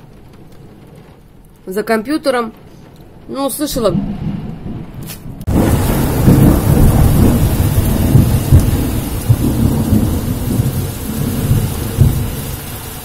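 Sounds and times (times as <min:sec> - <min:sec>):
heavy rain rumble: 0:00.0 - 0:13.0.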